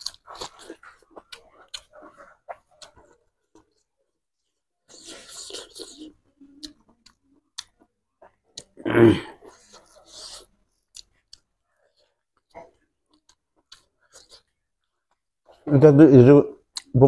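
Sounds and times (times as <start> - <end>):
person chewing food: 0.0 - 15.7, 16.6 - 17.0.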